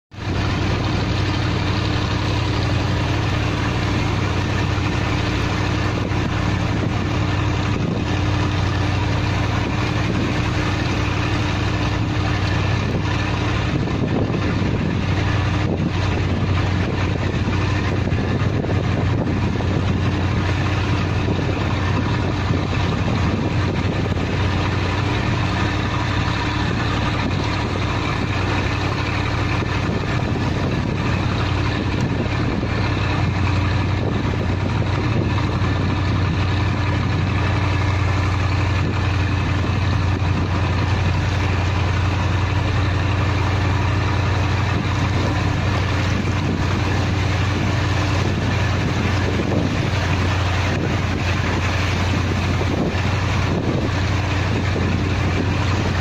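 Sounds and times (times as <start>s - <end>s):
boat engine humming: 0.0s - 56.0s
water rushing along hull: 0.0s - 56.0s.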